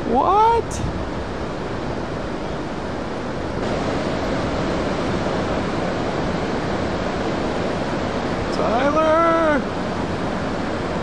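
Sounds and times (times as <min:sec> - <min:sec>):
heavy surf breaking: 0:00.0 - 0:11.0.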